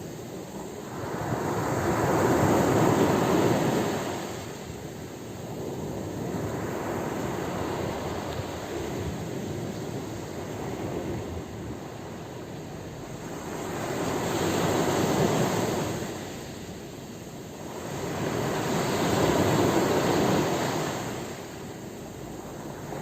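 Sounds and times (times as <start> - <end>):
sea waves surging: 0.0 - 23.0.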